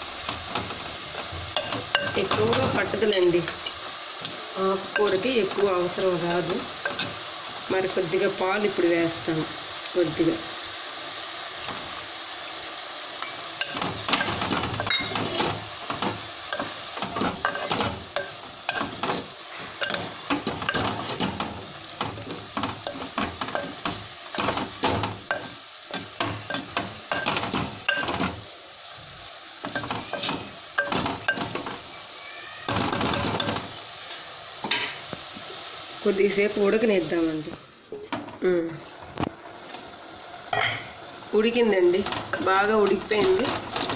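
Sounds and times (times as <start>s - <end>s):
sizzling in a hot pan: 0.0s - 43.9s.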